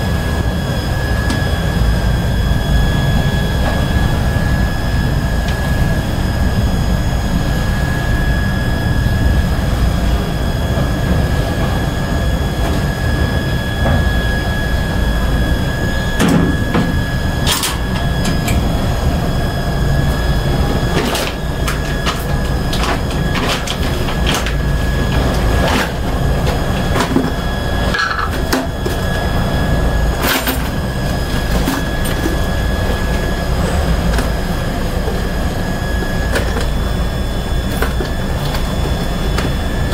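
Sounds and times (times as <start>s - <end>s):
high whine: 0.0s - 39.9s.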